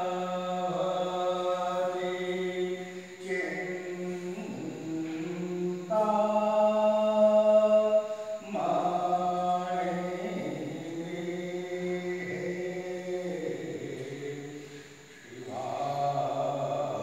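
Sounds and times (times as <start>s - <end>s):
person singing devotional chant: 0.0s - 17.0s.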